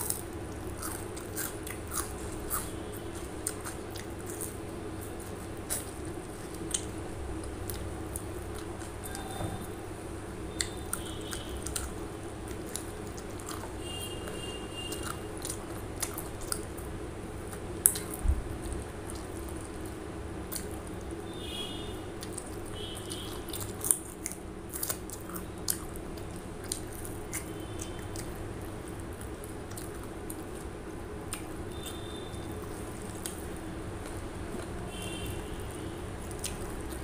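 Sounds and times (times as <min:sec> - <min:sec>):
biting and chewing food: 0:00.0 - 0:09.8, 0:10.4 - 0:37.0
steady low hum: 0:00.0 - 0:37.0.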